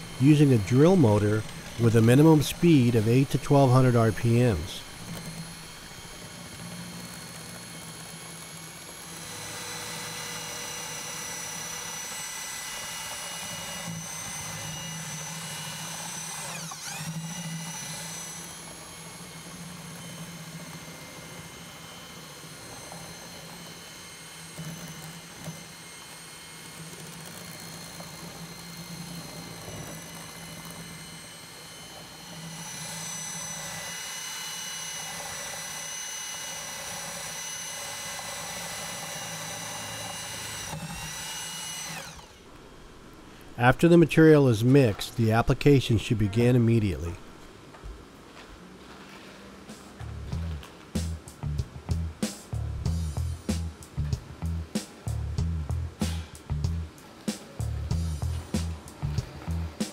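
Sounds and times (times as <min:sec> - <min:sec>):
electric mixing drill whining: 0:00.0 - 0:44.4, 0:49.0 - 0:59.9.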